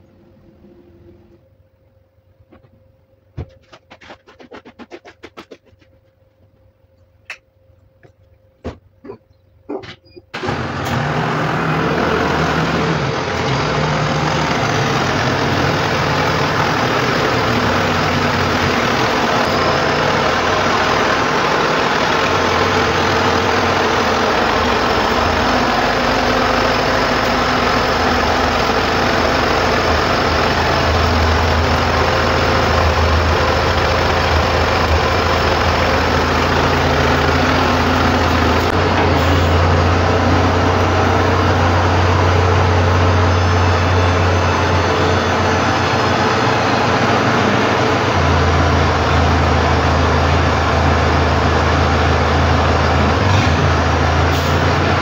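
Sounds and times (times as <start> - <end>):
diesel engine running: 7.3 - 55.0.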